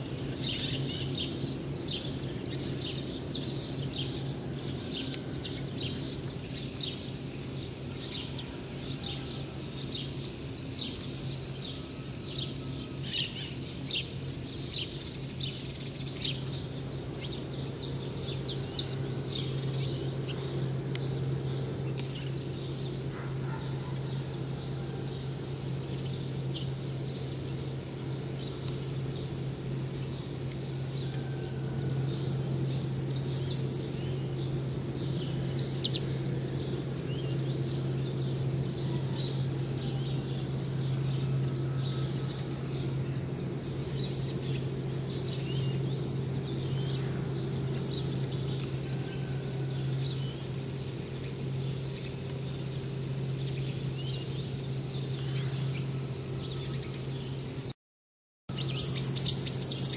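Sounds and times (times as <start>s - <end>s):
steady low hum: 0.0s - 57.7s, 58.5s - 59.9s
small birds chirping: 0.0s - 57.8s, 58.5s - 59.9s.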